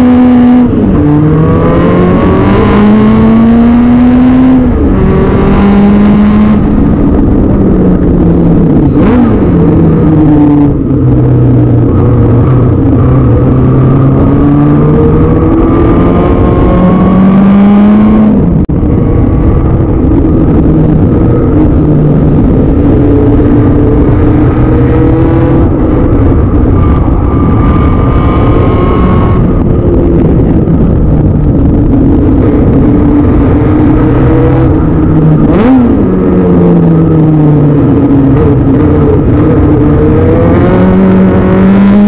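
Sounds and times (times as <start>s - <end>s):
racing car engine revving: 0.0s - 42.0s
wind noise: 0.0s - 42.0s.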